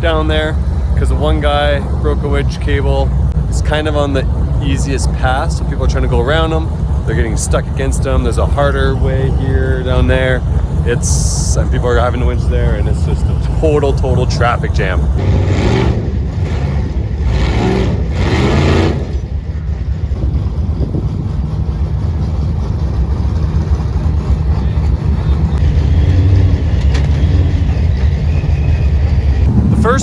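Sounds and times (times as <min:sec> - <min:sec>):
race buggy engines revving: 0:00.0 - 0:30.0.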